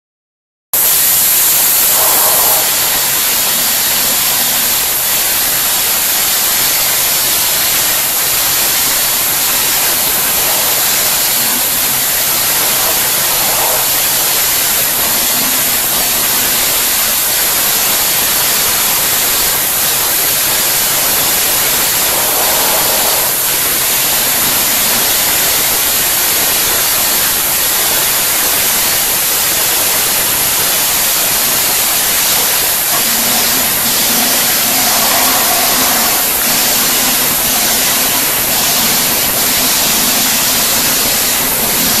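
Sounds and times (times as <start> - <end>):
sandblaster hissing: 0.8 - 42.0.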